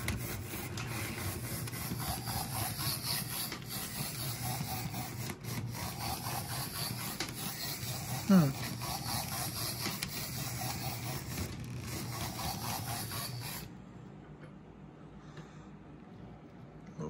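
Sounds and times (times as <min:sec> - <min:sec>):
model locomotive motor whirring: 0:00.0 - 0:13.7.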